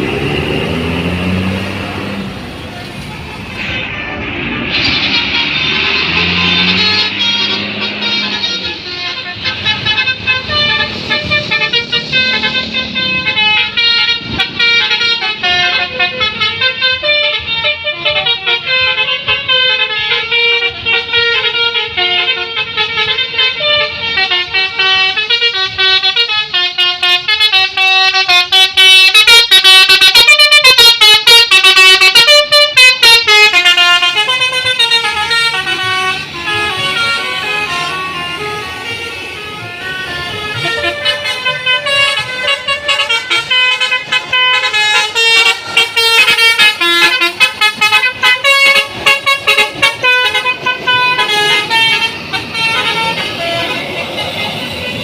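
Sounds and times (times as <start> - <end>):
bus air horns playing melodies: 0.0 - 55.0.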